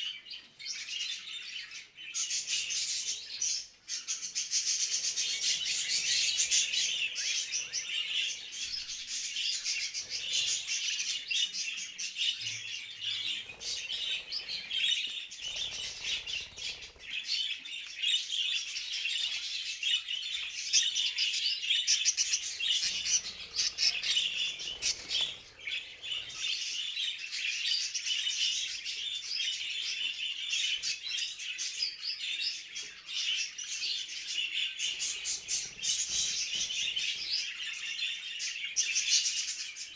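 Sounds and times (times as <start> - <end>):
budgerigars chattering and warbling: 0.8 - 39.9.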